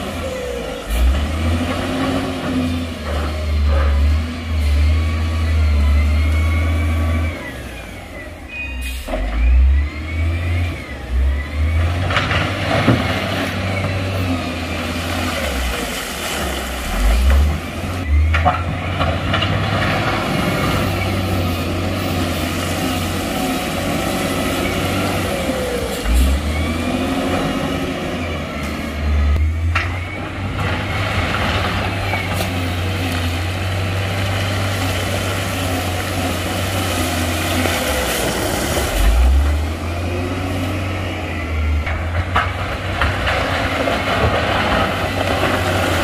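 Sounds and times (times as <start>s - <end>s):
heavy diesel engine rumble: 0.0s - 46.0s.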